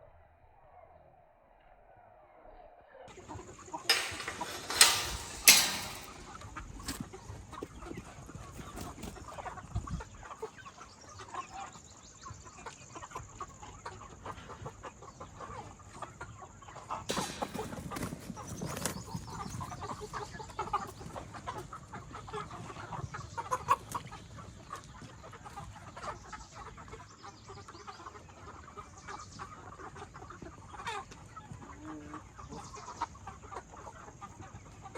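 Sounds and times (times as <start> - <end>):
chickens clucking: 3.1 - 34.9.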